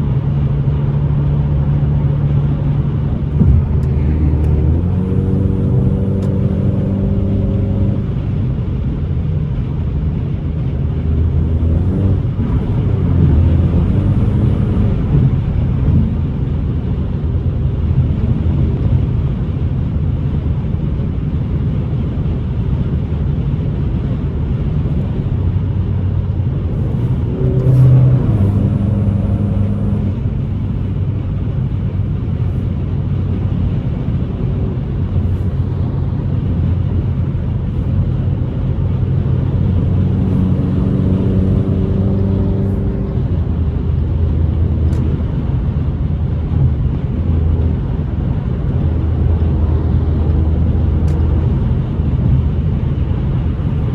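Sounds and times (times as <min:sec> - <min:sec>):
car engine pulling: 0:00.0 - 0:19.3, 0:24.2 - 0:53.9
road noise rumble: 0:00.0 - 0:53.9.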